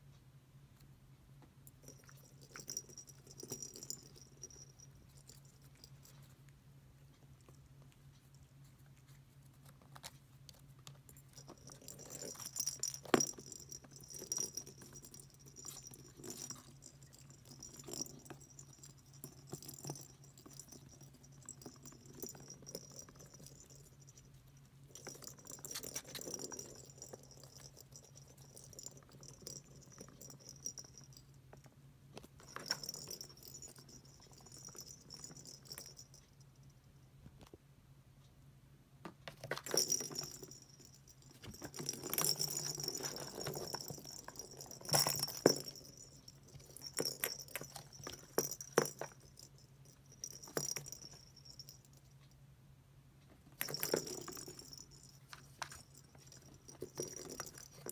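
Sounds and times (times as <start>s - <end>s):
bell ball jingling: 1.7s - 6.3s, 11.1s - 31.6s, 32.3s - 36.8s, 39.4s - 52.2s, 53.6s - 57.9s.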